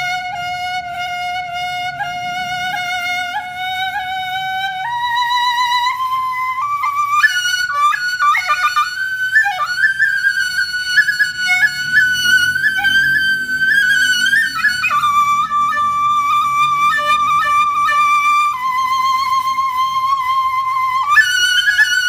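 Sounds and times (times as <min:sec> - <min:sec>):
flute melody: 0:00.0 - 0:22.0.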